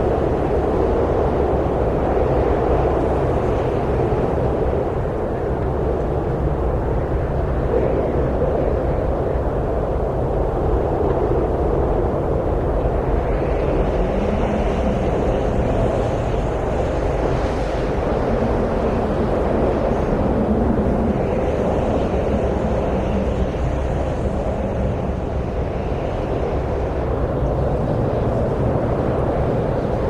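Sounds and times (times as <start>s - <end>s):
steady wind rushing: 0.0s - 30.0s.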